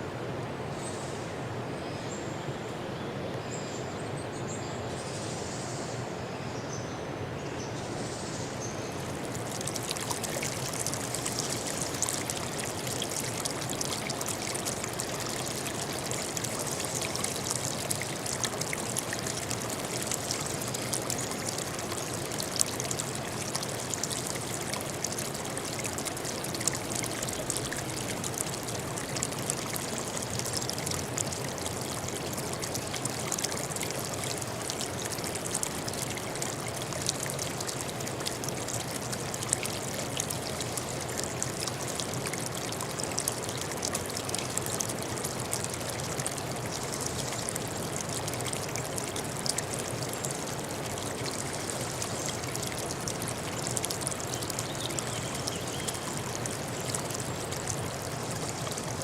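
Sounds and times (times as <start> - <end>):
stream trickling and splashing: 0.0 - 59.0.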